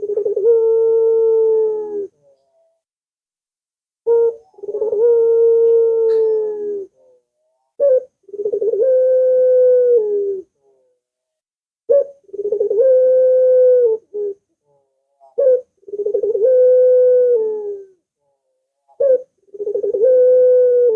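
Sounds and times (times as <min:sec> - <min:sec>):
dove cooing: 0:00.0 - 0:02.5, 0:04.1 - 0:10.9, 0:11.9 - 0:18.0, 0:18.9 - 0:20.9.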